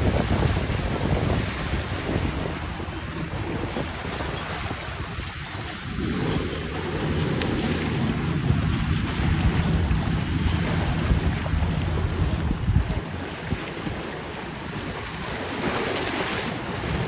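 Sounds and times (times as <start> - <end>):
boat engine rumble: 0.0 - 17.0
water washing: 0.0 - 17.0
wind buffeting microphone: 0.0 - 17.0.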